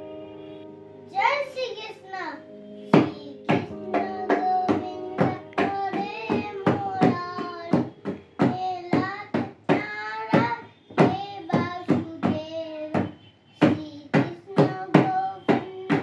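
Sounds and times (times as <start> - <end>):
child singing devotional song: 1.1 - 16.0.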